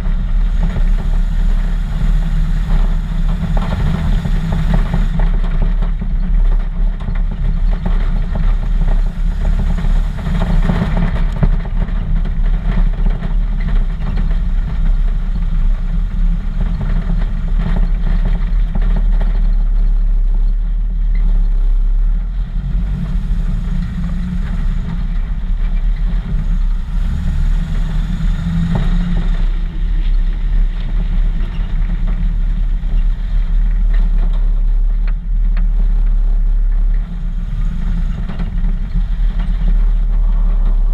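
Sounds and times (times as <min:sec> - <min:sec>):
truck engine rumbling: 0:00.0 - 0:40.9.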